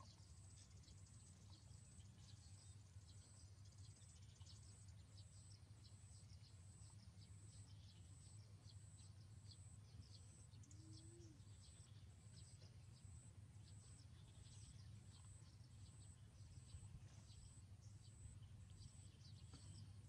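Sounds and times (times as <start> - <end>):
faint pulsing high-pitched tone: 0.0 - 20.0.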